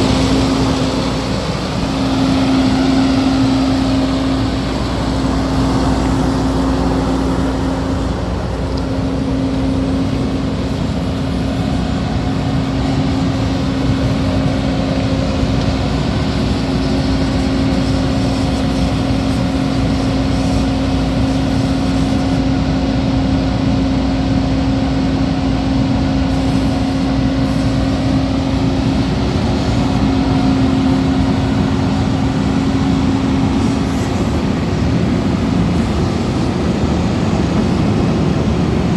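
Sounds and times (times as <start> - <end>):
constant humming tone: 0.0 - 38.9
tractor diesel engine running: 0.0 - 38.9.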